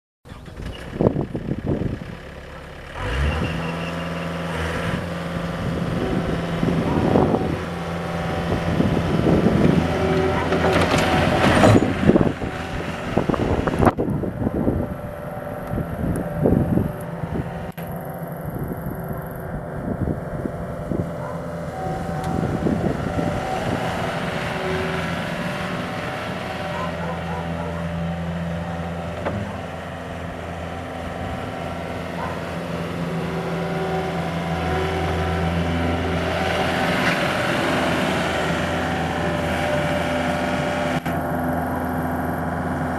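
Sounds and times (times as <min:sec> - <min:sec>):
diesel engine running: 0:00.2 - 0:42.9.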